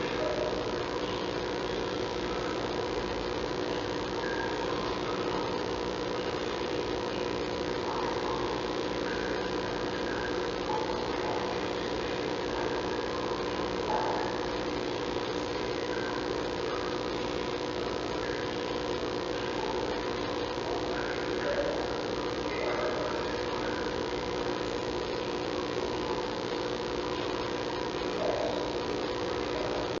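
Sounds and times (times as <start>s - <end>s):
electrical hum with tones: 0.0s - 30.0s.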